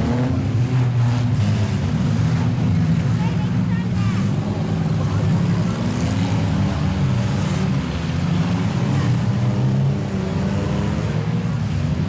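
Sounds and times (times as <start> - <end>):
several car engines running loudly: 0.0 - 12.0.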